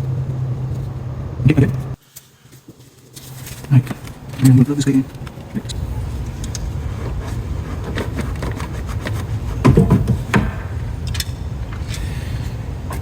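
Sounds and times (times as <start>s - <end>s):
steady low rumble: 0.0s - 2.0s, 3.6s - 13.0s
scraping: 0.0s - 13.0s.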